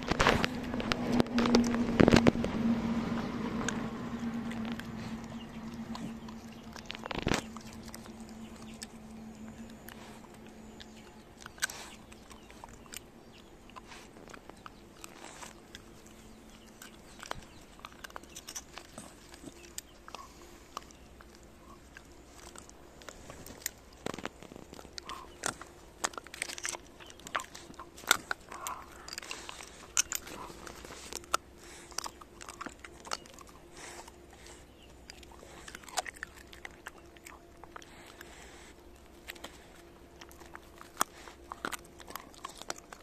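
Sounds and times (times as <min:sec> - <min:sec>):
dog crunching bones: 0:00.0 - 0:43.0.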